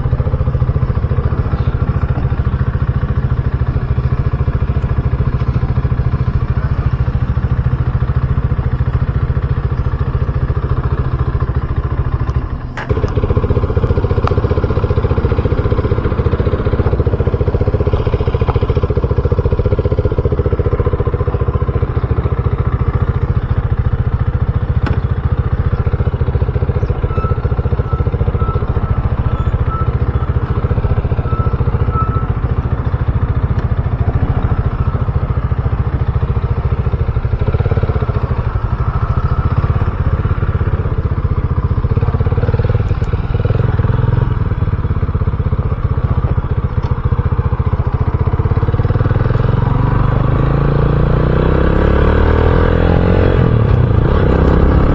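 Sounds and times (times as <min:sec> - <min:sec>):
motorcycle running: 0:00.0 - 0:54.9.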